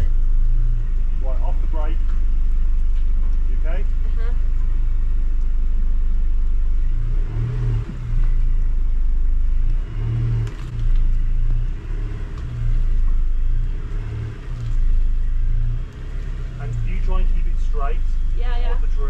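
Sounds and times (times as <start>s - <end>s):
car engine running under load: 0.0s - 19.0s.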